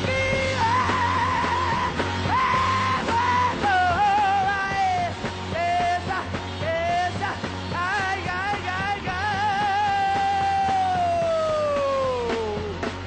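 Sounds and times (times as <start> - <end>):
man singing with vibrato: 0.0 - 12.8
heavy bass and guitar: 0.0 - 13.0.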